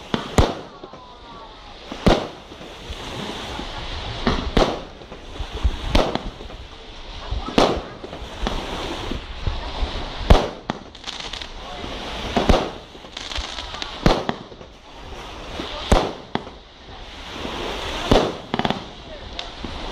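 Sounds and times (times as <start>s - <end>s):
firework shells bursting: 0.0s - 6.8s, 10.2s - 19.9s.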